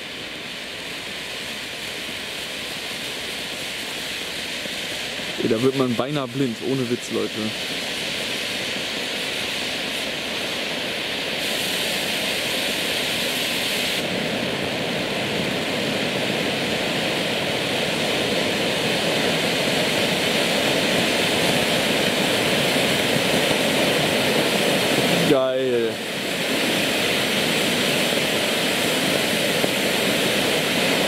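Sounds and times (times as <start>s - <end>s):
fountain firework hissing: 0.0s - 31.0s.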